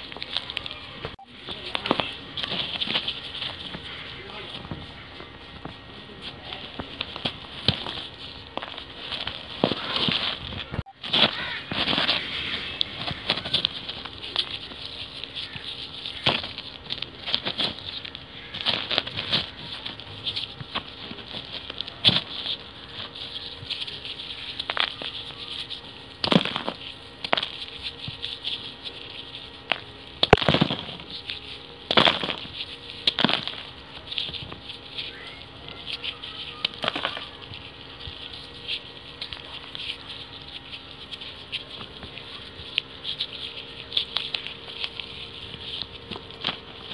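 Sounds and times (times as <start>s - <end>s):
dry clay balls crumbling: 0.0s - 46.9s.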